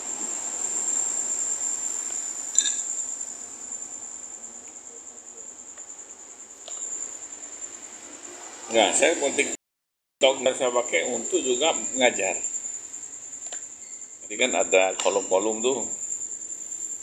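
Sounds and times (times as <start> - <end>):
crickets chirping: 0.0 - 9.6, 10.2 - 17.0.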